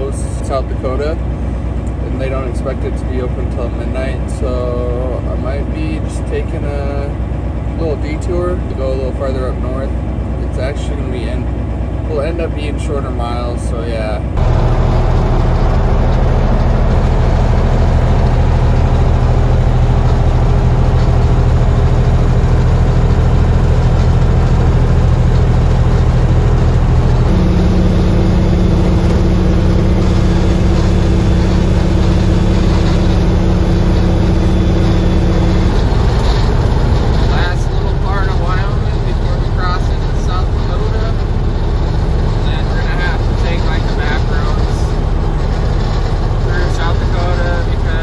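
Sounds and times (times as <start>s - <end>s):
truck engine running: 0.0s - 48.0s
road and tyre noise: 5.2s - 48.0s.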